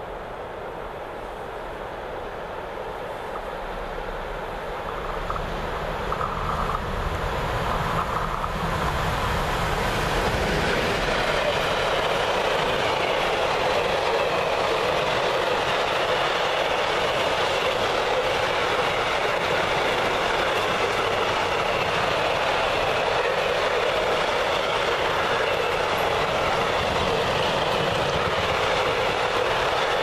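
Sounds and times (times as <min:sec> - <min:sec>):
train wheels rushing on rail: 0:00.0 - 0:30.0.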